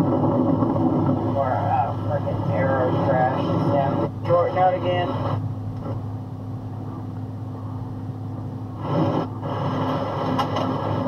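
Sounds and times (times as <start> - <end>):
truck engine drone: 0.0 - 11.0.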